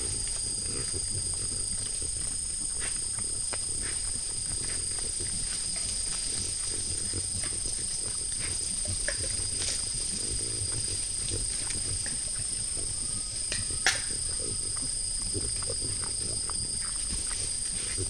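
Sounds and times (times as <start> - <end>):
animals chewing and crunching: 0.0 - 18.0.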